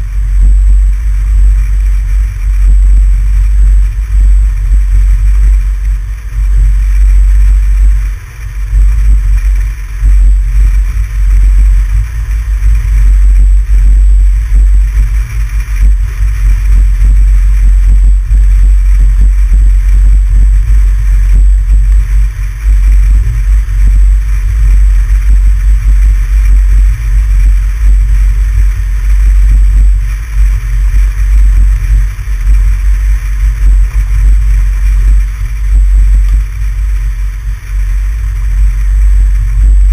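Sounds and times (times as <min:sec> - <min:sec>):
wind and road noise of vehicle: 0:00.0 - 0:39.9.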